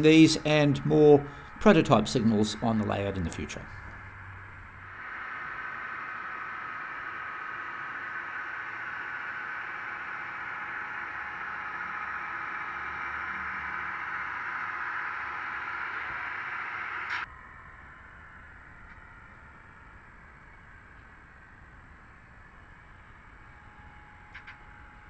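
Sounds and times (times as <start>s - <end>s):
model trains running past: 0.0s - 25.0s.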